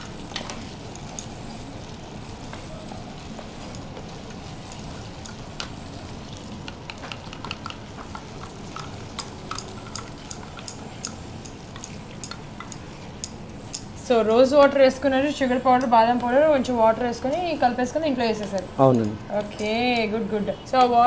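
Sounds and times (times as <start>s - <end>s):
boiling pan hiss: 0.0s - 18.8s.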